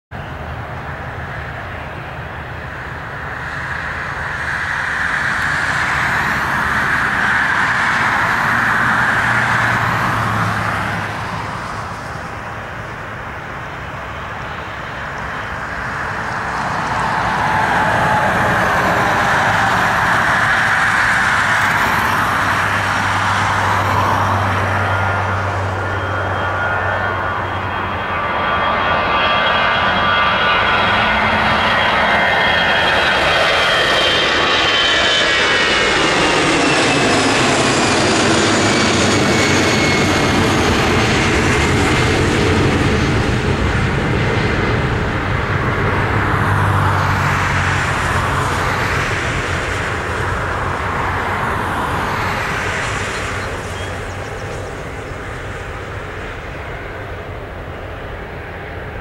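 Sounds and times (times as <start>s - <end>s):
jet engines roaring at takeoff: 0.1s - 59.0s.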